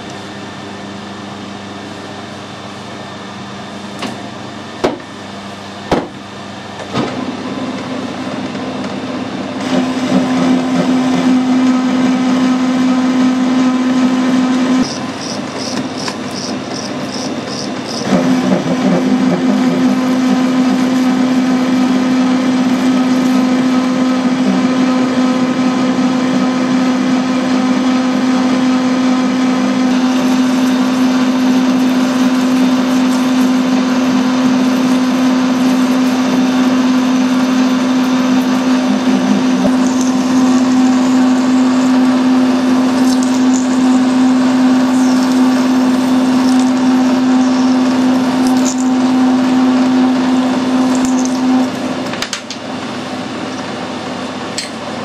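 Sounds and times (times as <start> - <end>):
metal lathe humming: 7.4 - 52.2.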